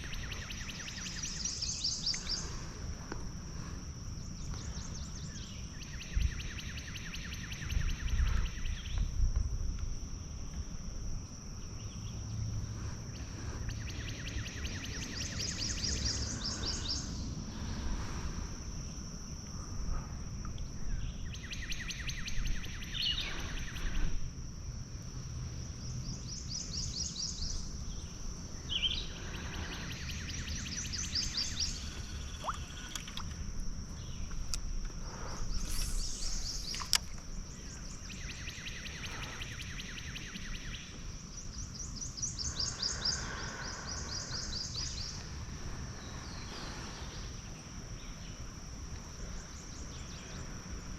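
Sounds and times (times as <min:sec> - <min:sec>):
high-pitched insect drone: 0:00.0 - 0:50.9.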